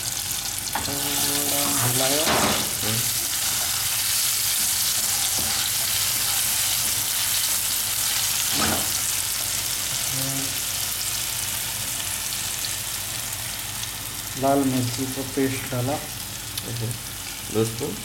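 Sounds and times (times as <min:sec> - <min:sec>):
paste sizzling in hot oil: 0:00.0 - 0:17.9.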